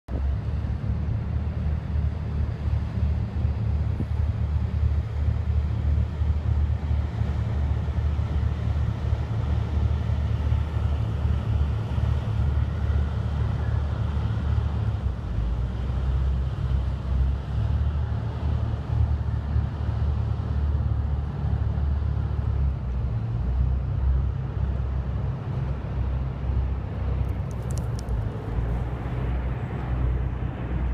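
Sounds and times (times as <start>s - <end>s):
boat engines passing: 0.1s - 30.9s
city traffic rumble: 0.1s - 30.9s.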